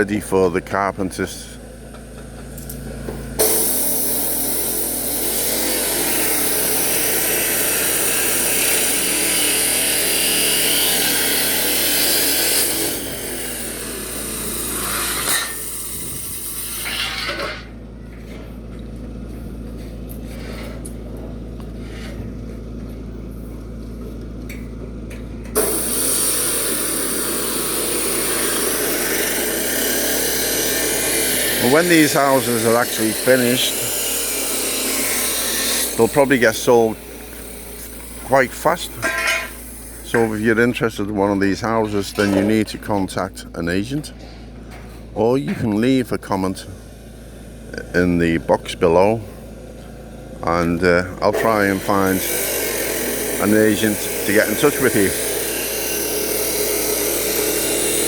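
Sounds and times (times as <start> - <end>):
power tool running: 0.0 - 58.0.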